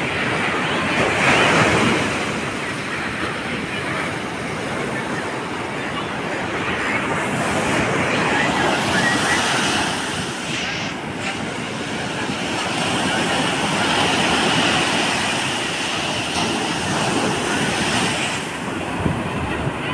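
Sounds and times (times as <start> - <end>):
ocean surf breaking: 0.0 - 19.9.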